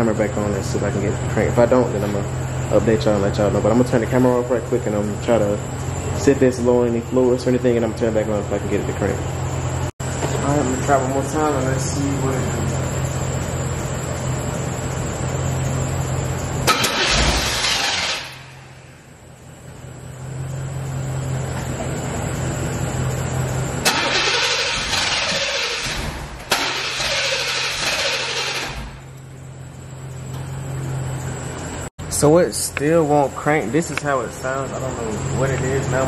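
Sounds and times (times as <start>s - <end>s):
car engine cranking and dying: 0.0s - 36.0s.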